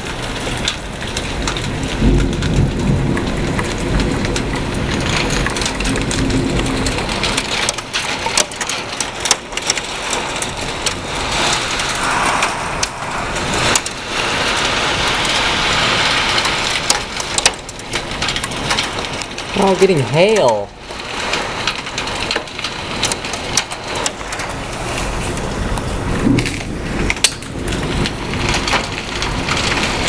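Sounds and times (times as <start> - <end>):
hailstones ticking: 0.0 - 12.0, 13.3 - 30.0
heavy rain pouring: 0.0 - 30.0
thunder rumbling: 0.3 - 30.0.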